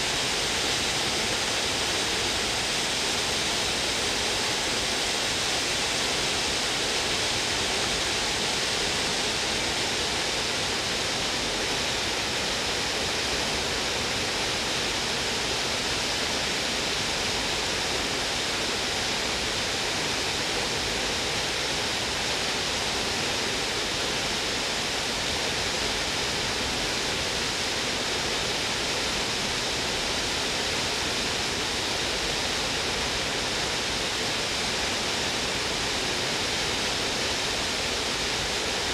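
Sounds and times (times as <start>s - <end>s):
fountain water rushing: 0.0s - 38.9s.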